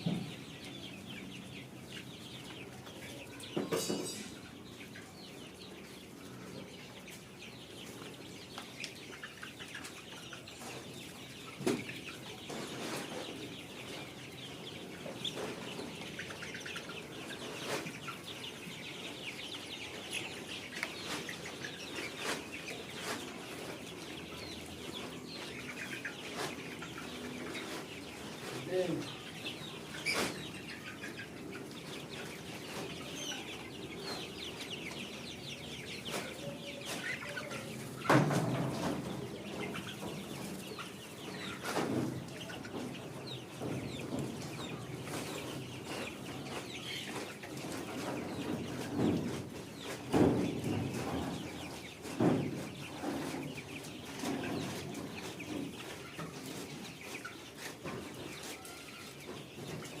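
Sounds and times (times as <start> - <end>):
chickens clucking and chirping: 0.0 - 60.0.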